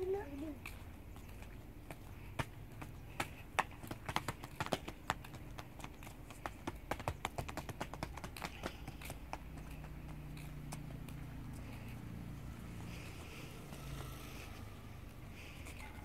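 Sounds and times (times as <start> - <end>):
children running on concrete: 0.0 - 16.0.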